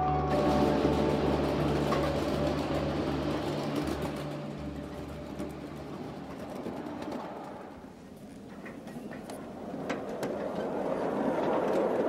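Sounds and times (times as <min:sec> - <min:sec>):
miniature train running: 0:00.0 - 0:12.0.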